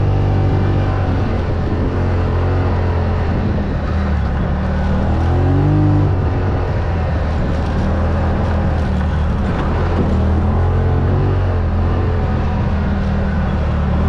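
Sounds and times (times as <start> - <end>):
vehicle engine running and revving: 0.0 - 14.0.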